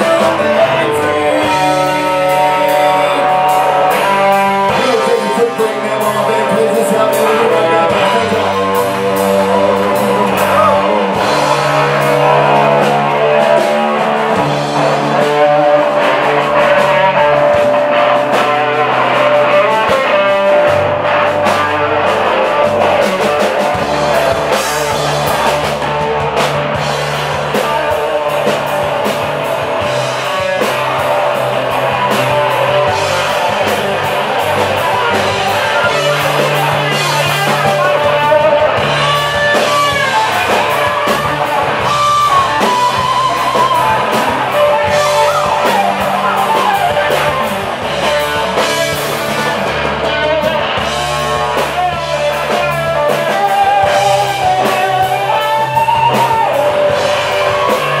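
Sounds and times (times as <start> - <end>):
bass guitar: 0.0 - 58.0
drum kit: 0.0 - 58.0
electric guitar lead: 0.0 - 58.0
second electric guitar: 0.0 - 58.0.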